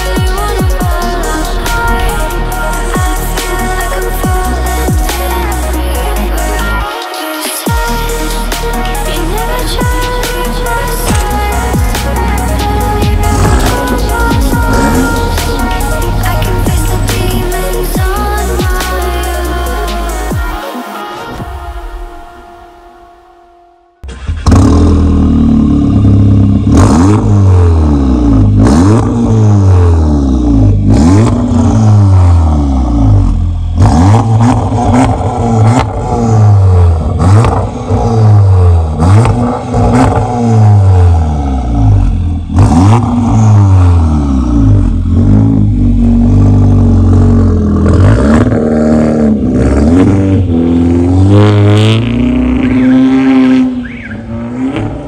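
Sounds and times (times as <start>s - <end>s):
car engine revving: 0.0s - 6.9s, 7.7s - 20.7s, 24.0s - 55.0s.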